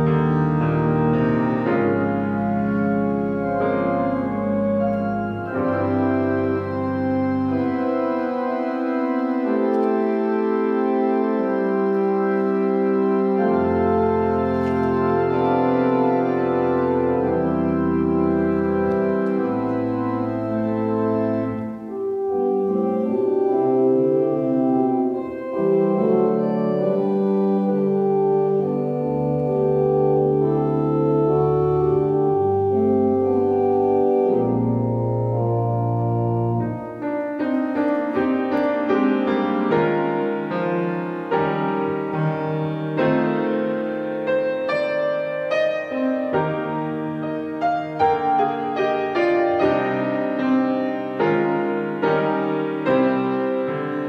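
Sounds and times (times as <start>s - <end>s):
organ music: 0.0s - 54.0s.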